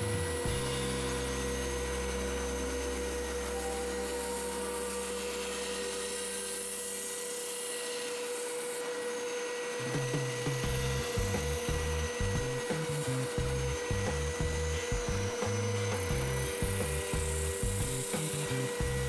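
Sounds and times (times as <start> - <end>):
shop vacuum running: 0.0 - 19.0
spindle sander motor whine: 0.0 - 19.0.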